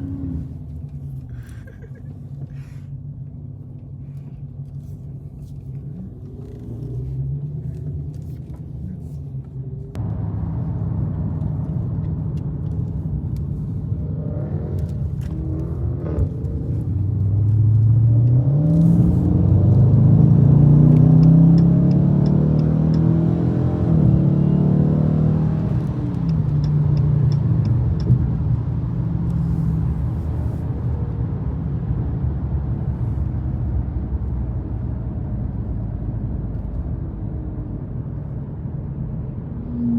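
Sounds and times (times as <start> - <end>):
car engine accelerating: 4.6 - 39.9.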